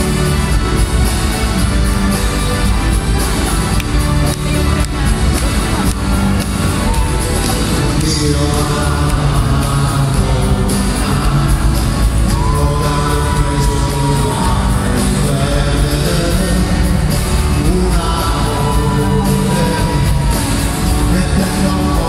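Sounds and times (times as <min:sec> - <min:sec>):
live band music: 0:00.0 - 0:22.0
person singing: 0:03.7 - 0:22.0.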